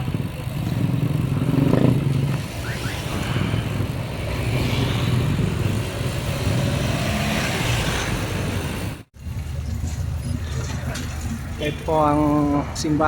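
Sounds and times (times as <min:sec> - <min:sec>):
vehicle road drone: 0:00.0 - 0:13.0.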